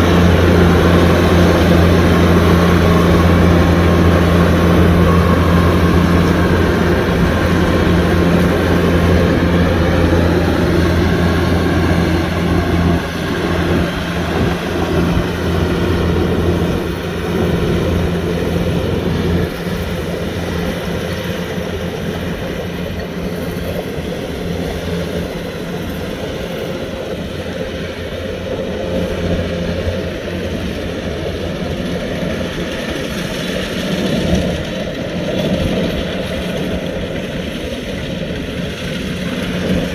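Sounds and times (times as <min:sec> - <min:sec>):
combine harvester engine and machinery: 0:00.0 - 0:39.9.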